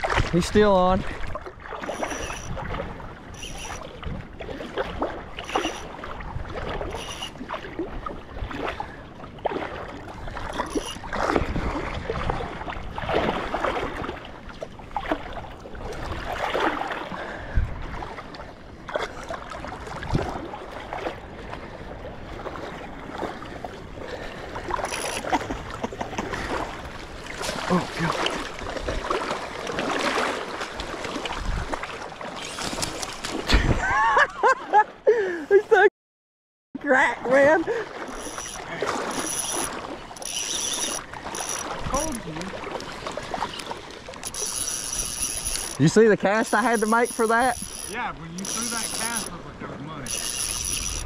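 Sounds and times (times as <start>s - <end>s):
seawater sloshing and lapping: 0.0s - 33.9s, 37.1s - 51.0s.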